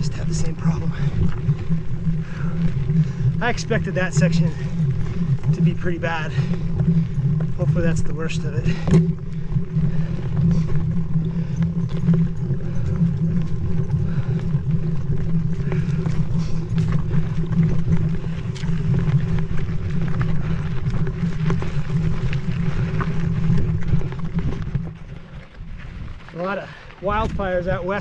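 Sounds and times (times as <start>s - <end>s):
wind on microphone: 0.0s - 26.4s, 27.0s - 28.0s
bike tyres knocking over rocks: 0.0s - 28.0s.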